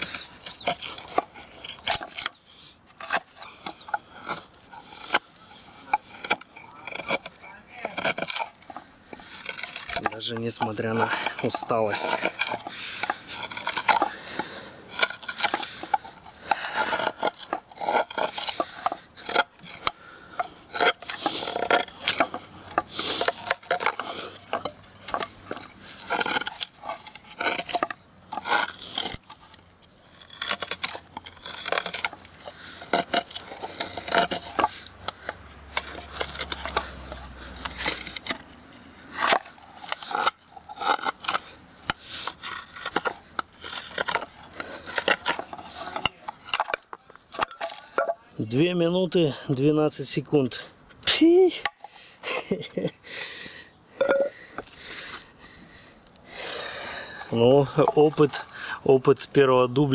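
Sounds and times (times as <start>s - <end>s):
knife blade scraping wood: 0.0s - 48.3s, 56.1s - 58.5s.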